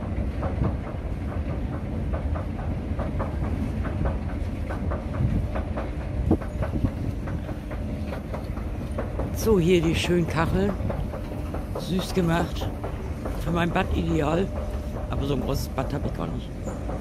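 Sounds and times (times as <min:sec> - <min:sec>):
train rumbling: 0:00.0 - 0:17.0
train wheels clattering: 0:00.0 - 0:17.0.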